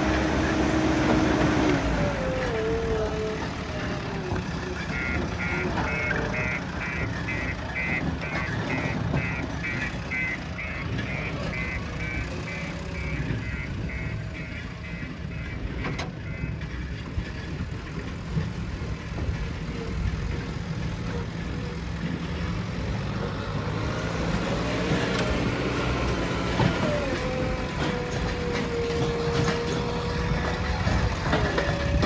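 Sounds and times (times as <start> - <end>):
diesel engine running: 0.0 - 32.0
reversing alarm beeping: 3.4 - 17.0, 19.2 - 32.0.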